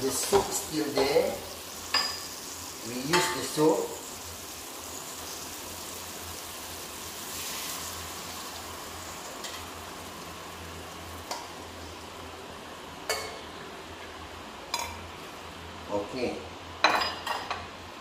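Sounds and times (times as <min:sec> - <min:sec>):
food sizzling in a pot: 0:00.0 - 0:15.5.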